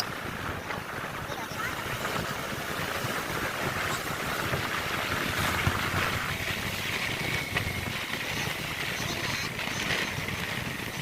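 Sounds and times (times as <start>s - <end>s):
motorcycle engine: 0.0s - 11.0s
wind over microphone: 0.0s - 11.0s.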